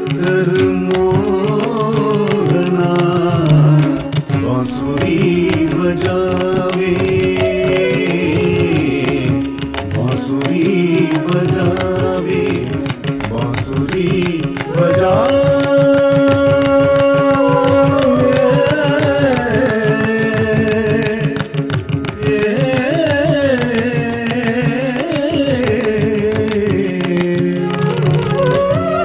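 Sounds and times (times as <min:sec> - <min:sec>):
steady percussion beat: 0:00.0 - 0:29.0.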